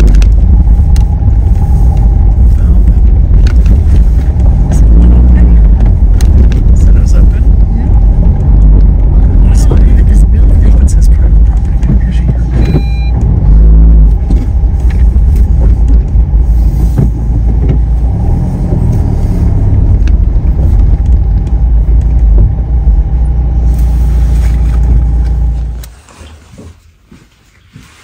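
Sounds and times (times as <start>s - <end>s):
car driving on gravel: 0.0s - 28.0s.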